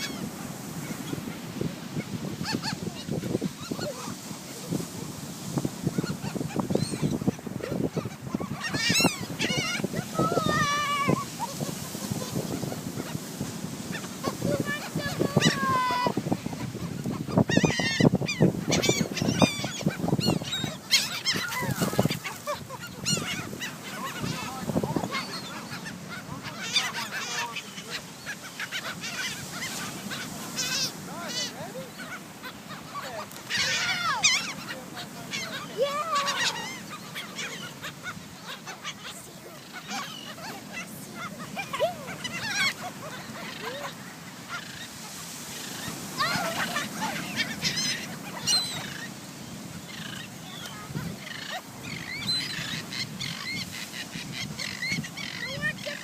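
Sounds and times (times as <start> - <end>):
gulls squawking: 0.0 - 56.0.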